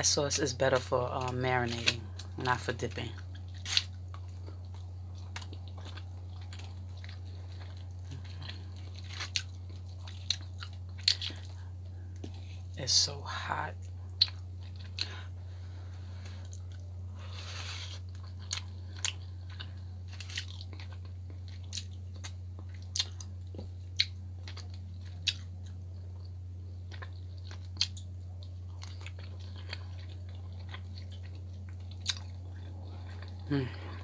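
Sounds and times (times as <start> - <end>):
steady low hum: 0.0 - 34.0
person chewing food: 1.2 - 12.8, 13.8 - 34.0.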